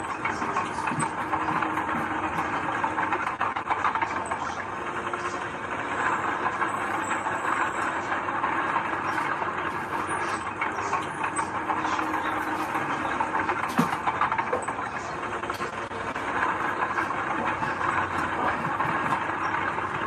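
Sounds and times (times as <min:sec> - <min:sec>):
earthmoving machine running: 0:00.0 - 0:20.0.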